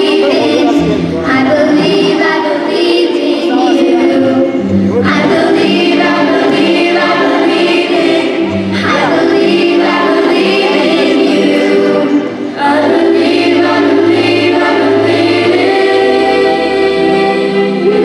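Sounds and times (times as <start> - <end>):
children's choir singing: 0.0 - 18.0
sustained accompaniment: 0.0 - 18.0.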